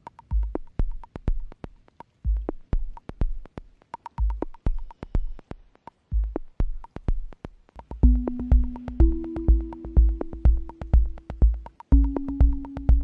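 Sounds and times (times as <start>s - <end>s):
electronic music with sparse beat: 0.0s - 13.0s.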